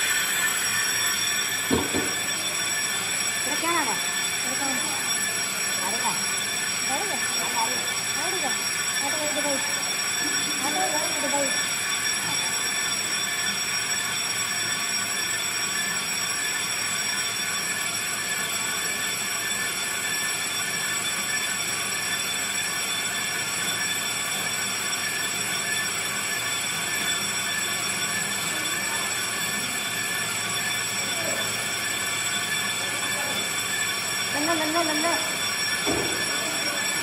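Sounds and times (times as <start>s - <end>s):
lathe cutting metal disc squealing: 0.0s - 37.0s.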